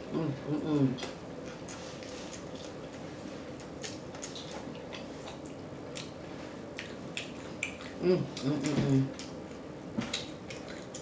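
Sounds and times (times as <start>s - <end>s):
open-mouth chewing: 1.0s - 11.0s.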